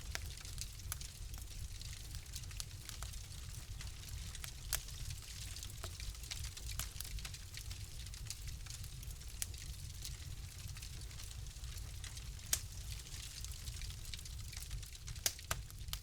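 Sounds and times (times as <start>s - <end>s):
flames rumbling and hissing: 0.0s - 16.0s
wood fire crackling: 0.0s - 16.0s.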